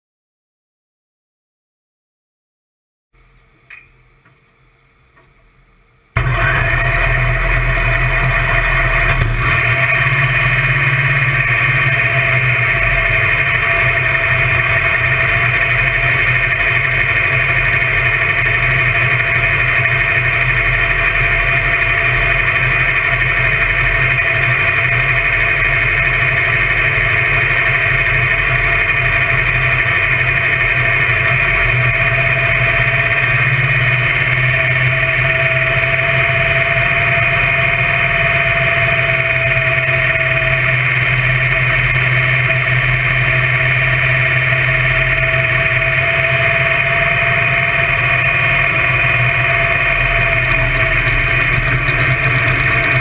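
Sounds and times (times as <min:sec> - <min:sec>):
dragster engine running loud: 0:06.2 - 0:53.0.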